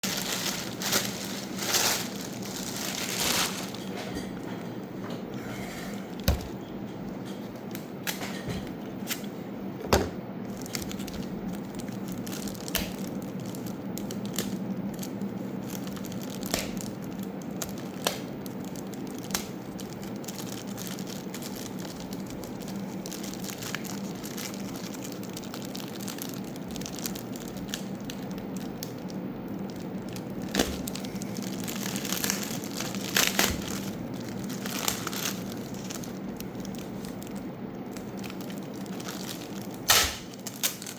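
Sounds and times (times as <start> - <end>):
packaging crinkling and tearing: 0.0 - 4.3, 10.5 - 40.9
steady low hum: 0.0 - 40.9.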